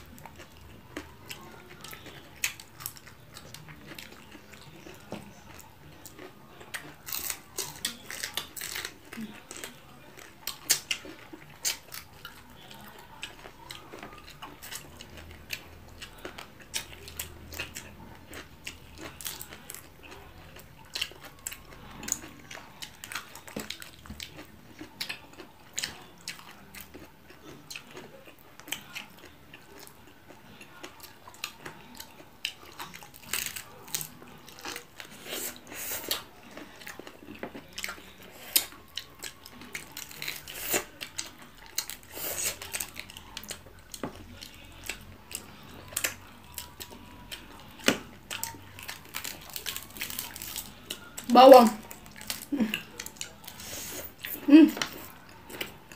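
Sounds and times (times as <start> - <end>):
chewing: 0.0 - 55.9.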